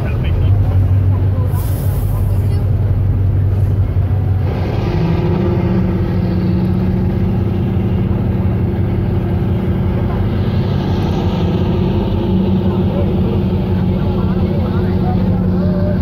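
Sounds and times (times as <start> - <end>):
boat diesel engine running: 0.0 - 16.0.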